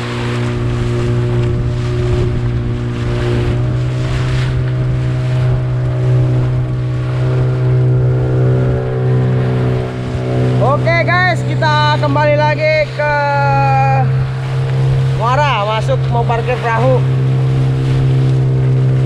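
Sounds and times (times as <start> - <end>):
boat engine droning: 0.0 - 19.0
rushing water: 0.0 - 19.0
wind noise: 0.0 - 19.0.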